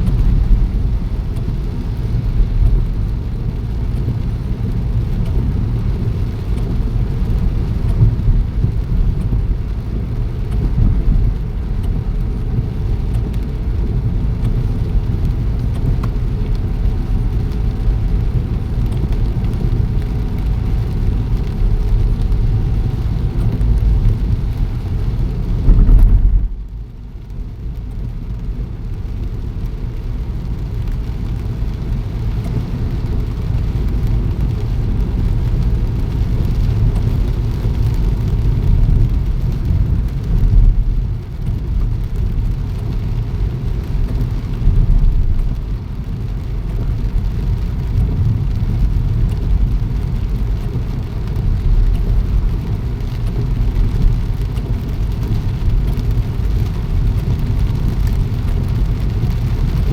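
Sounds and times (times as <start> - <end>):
rain falling: 0.0 - 59.9
road vehicles rumbling: 0.0 - 59.9.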